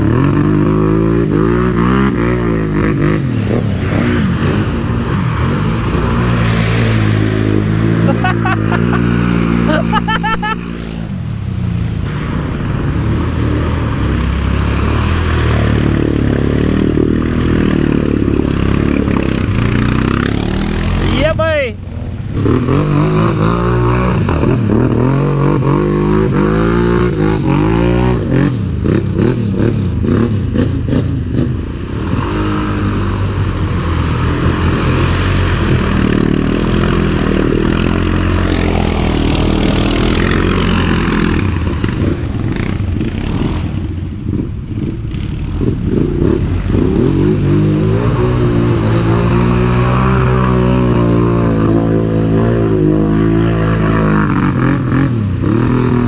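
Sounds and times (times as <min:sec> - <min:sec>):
engine running and revving: 0:00.0 - 0:56.0.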